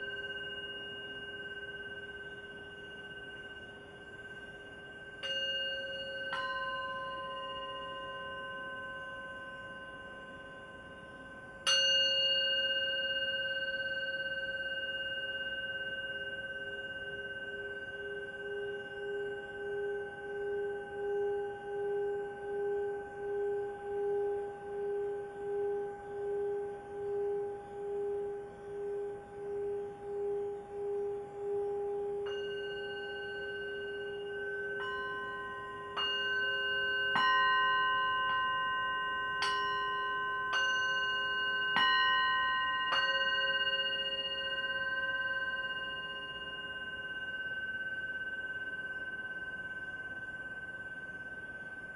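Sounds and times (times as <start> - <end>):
singing bowl struck with mallet: 0.0 - 10.0, 10.7 - 51.8
singing bowl rim tone: 0.0 - 51.9.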